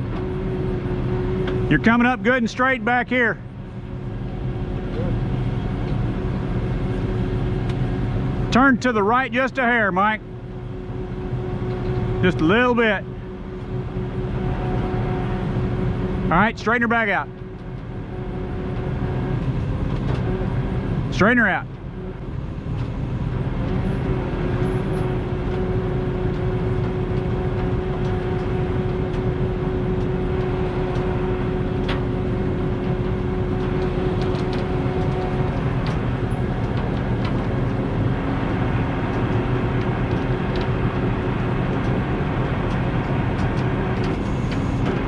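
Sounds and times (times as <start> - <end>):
heavy truck engine running: 0.0 - 45.0
steady whine: 0.0 - 45.0.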